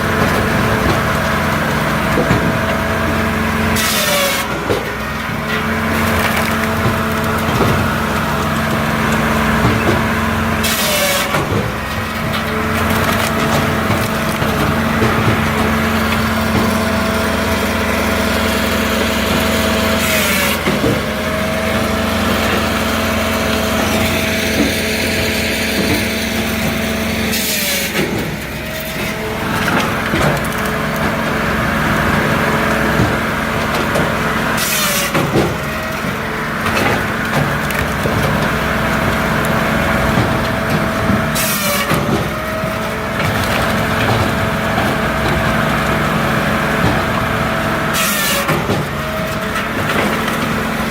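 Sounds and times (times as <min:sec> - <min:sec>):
diesel engine drone: 0:00.0 - 0:50.9
hydraulic whine: 0:00.0 - 0:50.9
wood cracking: 0:00.2 - 0:50.9.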